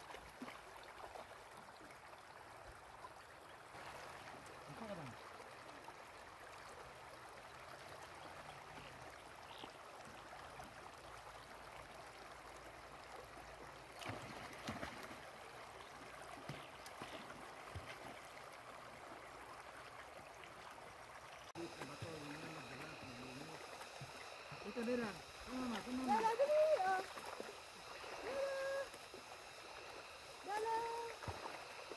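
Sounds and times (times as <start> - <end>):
river running over stones: 0.0 - 31.9.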